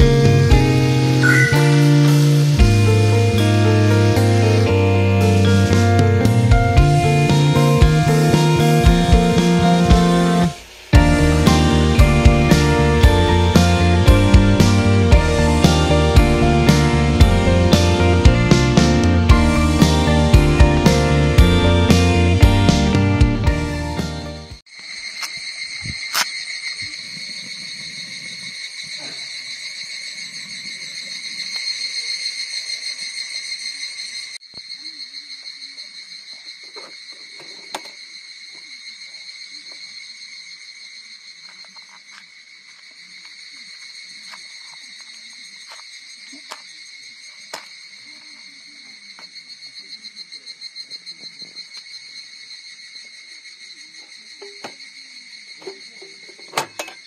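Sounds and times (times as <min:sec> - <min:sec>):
insects chirring: 0:00.0 - 0:17.0, 0:24.6 - 0:57.0.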